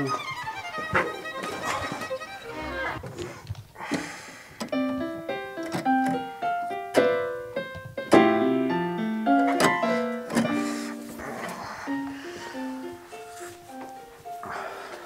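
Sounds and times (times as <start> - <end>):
electronic keyboard piano notes: 0.0 - 3.0, 4.6 - 15.0.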